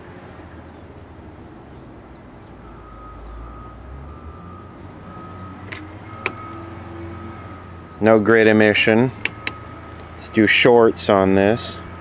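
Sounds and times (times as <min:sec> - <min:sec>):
distant engine rumble: 0:00.0 - 0:12.0.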